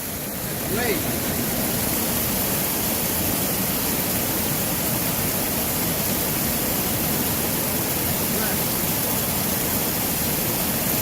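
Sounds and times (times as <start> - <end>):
water current rushing: 0.0 - 11.0.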